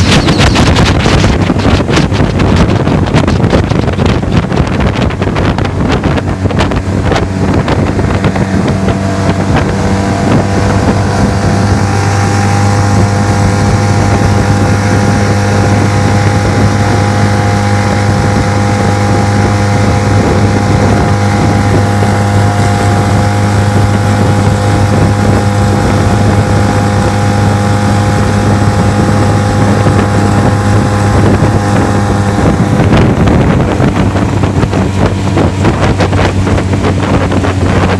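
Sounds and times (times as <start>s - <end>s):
outboard motor running: 0.0s - 37.9s
wind on microphone: 0.0s - 37.9s.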